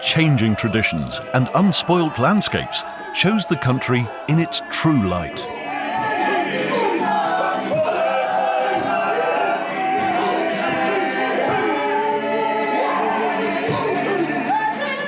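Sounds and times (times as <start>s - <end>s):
choir singing: 0.0s - 13.6s.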